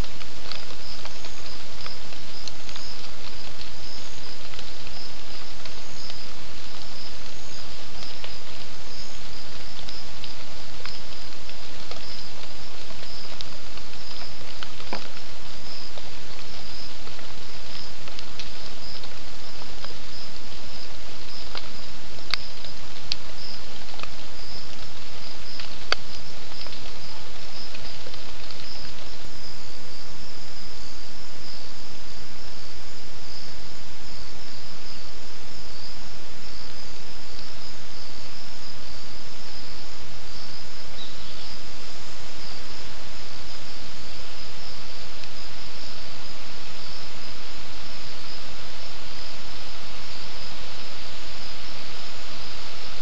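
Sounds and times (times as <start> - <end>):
crickets chirping: 0.0 - 53.0
steady hiss: 0.0 - 53.0.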